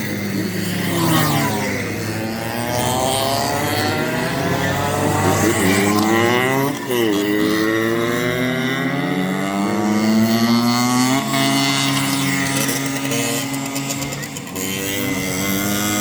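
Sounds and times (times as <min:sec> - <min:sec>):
go-kart engine revving: 0:00.0 - 0:16.0.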